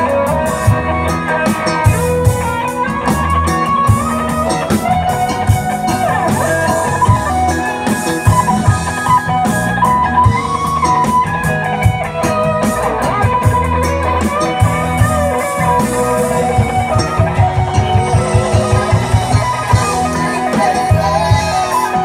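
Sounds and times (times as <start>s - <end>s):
drums: 0.0s - 22.0s
electric guitar: 0.0s - 22.0s
keyboard: 0.0s - 22.0s.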